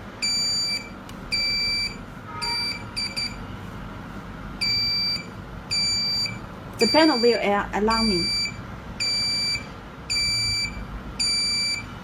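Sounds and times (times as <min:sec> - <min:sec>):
alarm panel beeping: 0:00.2 - 0:03.4, 0:04.6 - 0:12.0.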